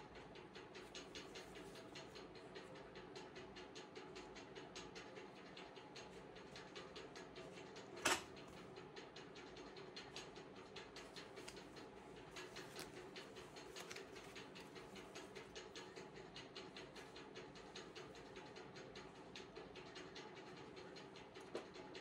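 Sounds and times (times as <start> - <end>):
rapid ticking: 0.0 - 22.0.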